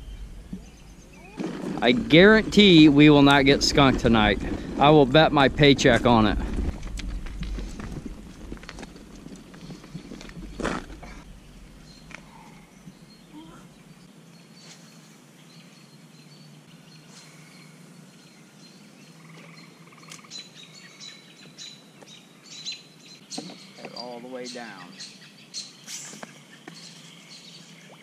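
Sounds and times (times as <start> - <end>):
birds chirping: 0.0 - 28.0
outdoor background noise: 0.0 - 28.0.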